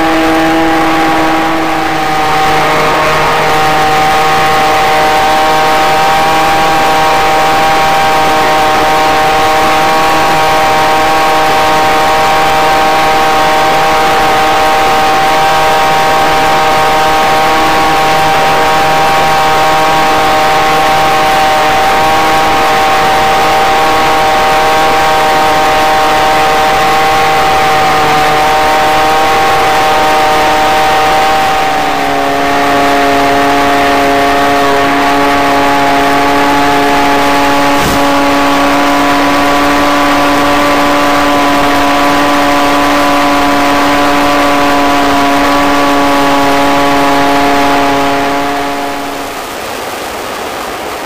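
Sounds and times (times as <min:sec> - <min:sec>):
model plane motor and propeller droning: 0:00.0 - 0:51.0.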